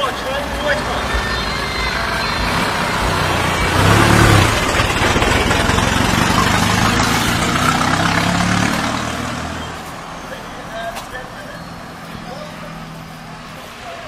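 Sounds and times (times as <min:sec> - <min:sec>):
pickup truck driving past: 0:00.0 - 0:14.0
tyre and road noise: 0:00.0 - 0:14.0
vehicle engines running: 0:00.0 - 0:14.0.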